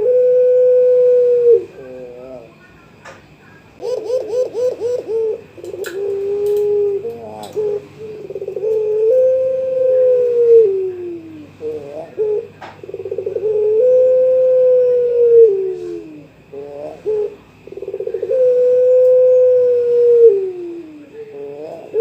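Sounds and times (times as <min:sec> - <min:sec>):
dove cooing: 0:00.0 - 0:02.7, 0:03.8 - 0:22.0.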